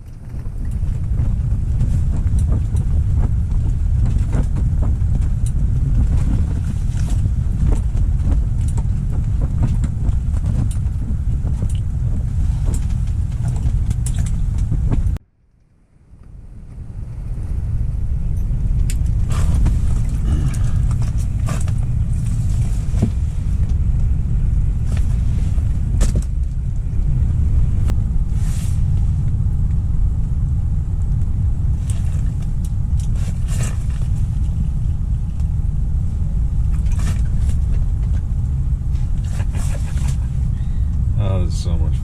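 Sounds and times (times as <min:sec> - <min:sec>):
wind buffeting microphone: 0:00.0 - 0:15.2, 0:16.2 - 0:42.0.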